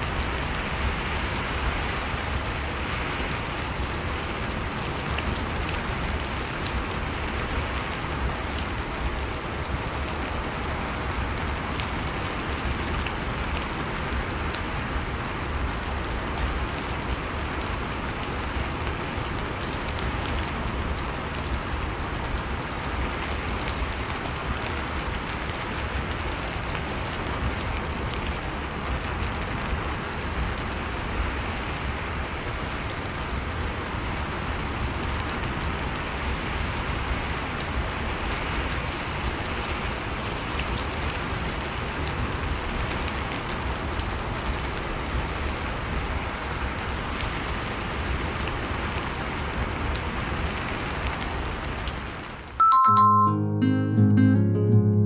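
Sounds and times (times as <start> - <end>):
steady rain pattering: 0.0 - 52.6.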